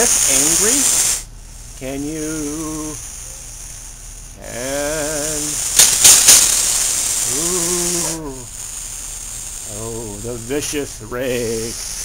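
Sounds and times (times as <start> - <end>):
snake hissing: 0.0 - 12.0.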